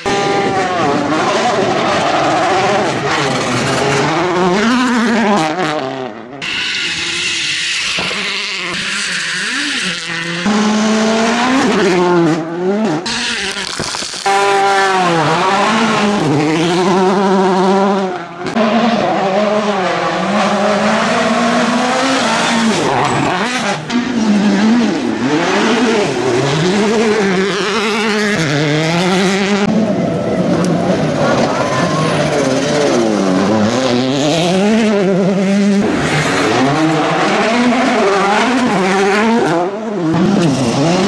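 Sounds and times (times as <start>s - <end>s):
rally cars revving past: 0.0s - 41.0s.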